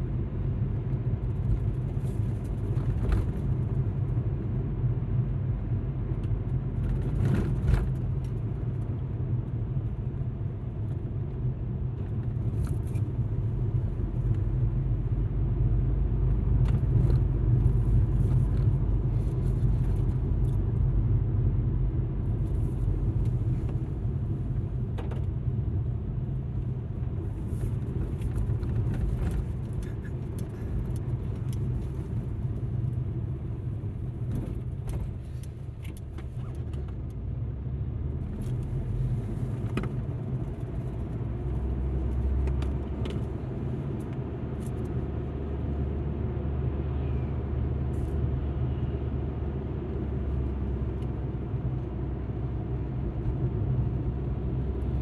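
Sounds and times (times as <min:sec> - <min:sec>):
car engine and road drone: 0:00.0 - 0:55.0.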